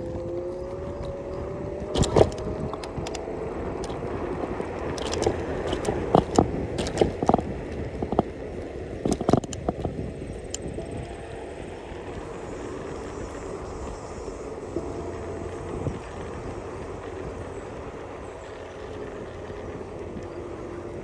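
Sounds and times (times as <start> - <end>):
rumble of rolling on pavement: 0.0 - 21.0
small vehicle motor whine: 0.0 - 21.0.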